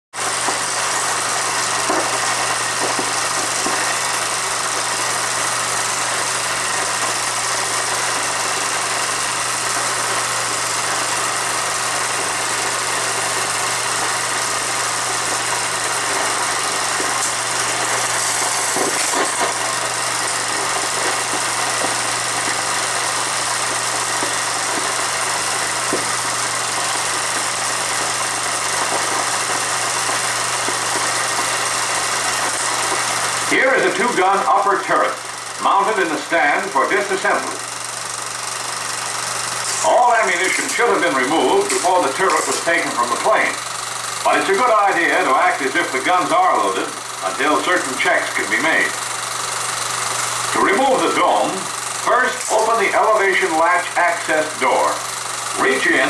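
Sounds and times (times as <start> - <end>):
film projector hiss: 0.2 - 56.0.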